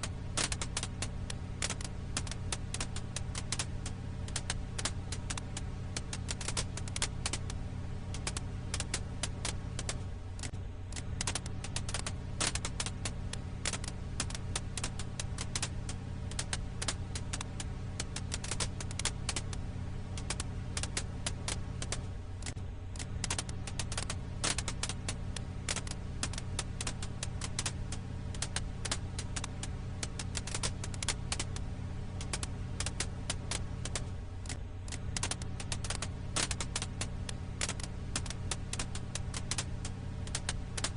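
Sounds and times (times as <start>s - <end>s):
steady low hum: 0.0s - 40.9s
wood fire crackling: 0.0s - 40.9s.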